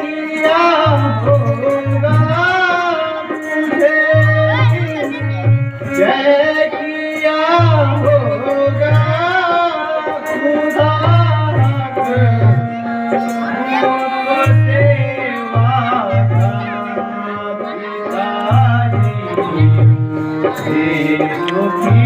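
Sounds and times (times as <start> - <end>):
held accompanying notes: 0.0 - 22.0
solo voice singing: 0.0 - 22.0.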